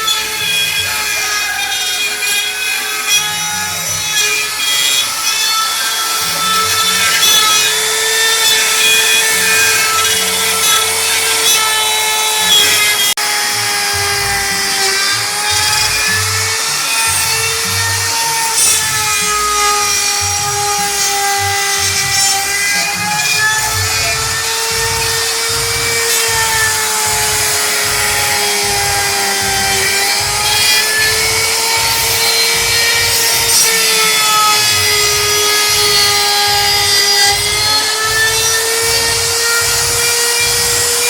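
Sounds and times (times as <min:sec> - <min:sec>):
router spindle high whine: 0:00.0 - 0:41.0.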